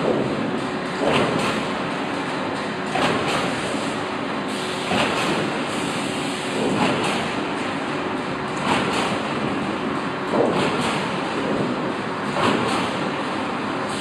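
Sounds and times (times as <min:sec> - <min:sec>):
steel coil line machinery: 0:00.0 - 0:14.0.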